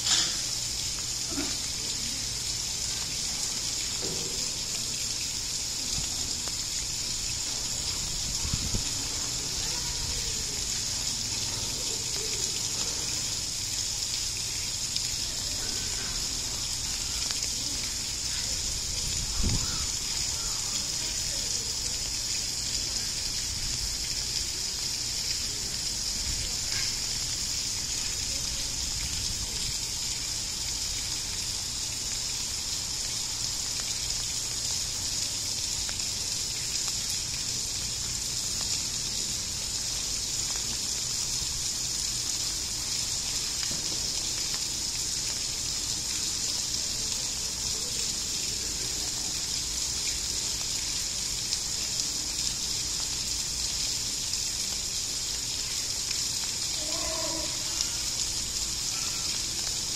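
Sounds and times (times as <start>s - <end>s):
running water gushing: 0.0s - 59.9s.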